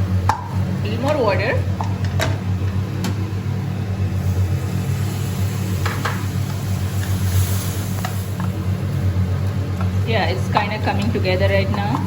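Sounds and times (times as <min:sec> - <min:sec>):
sizzling in a pan: 0:00.0 - 0:12.0
steady low hum: 0:00.0 - 0:12.0.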